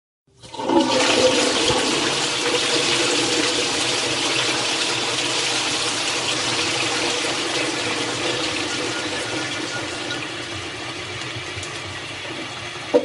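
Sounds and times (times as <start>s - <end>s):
toilet flushing: 0.3s - 13.0s.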